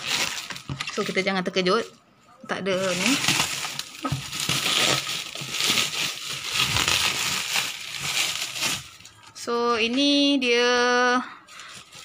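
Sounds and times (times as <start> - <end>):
bubble wrap crinkling: 0.0 - 1.9, 2.6 - 10.0, 11.5 - 12.0.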